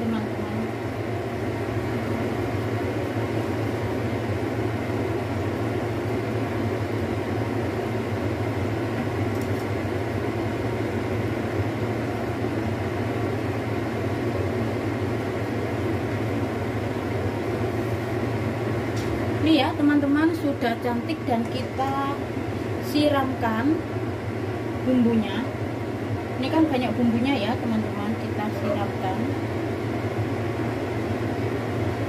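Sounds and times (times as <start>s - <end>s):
kitchen fan whirring hum: 0.0s - 32.0s.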